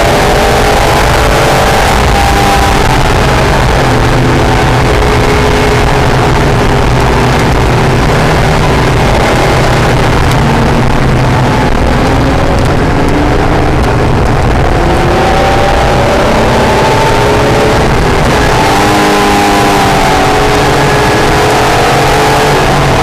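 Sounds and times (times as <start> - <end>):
car engine running hard: 0.0 - 23.0
wind and road noise: 0.0 - 23.0.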